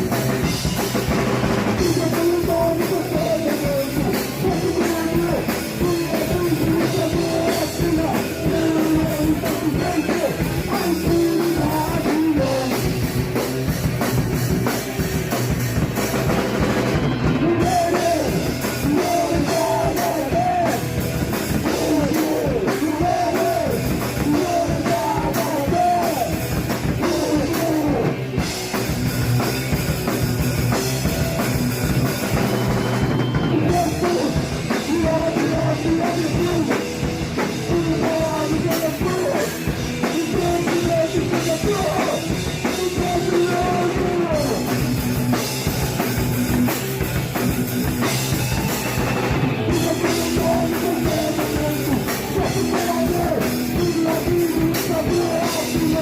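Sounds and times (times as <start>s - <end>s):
bass guitar: 0.0s - 56.0s
distorted electric guitars: 0.0s - 56.0s
fast driving drums: 0.0s - 56.0s.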